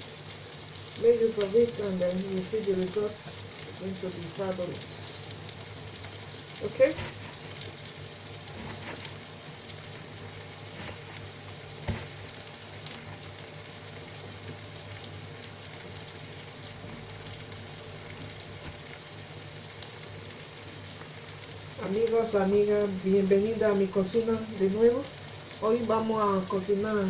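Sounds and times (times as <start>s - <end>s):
stew sizzling in oil: 0.0s - 27.0s
faint crackles: 0.2s - 22.6s.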